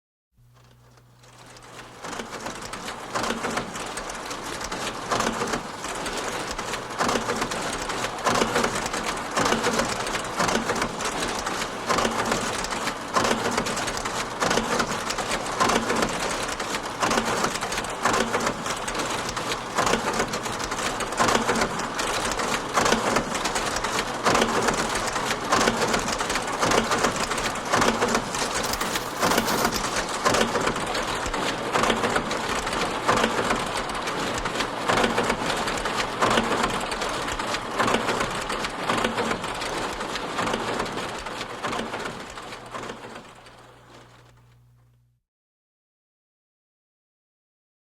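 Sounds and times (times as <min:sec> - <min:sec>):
counting machine clattering: 0:00.6 - 0:43.8.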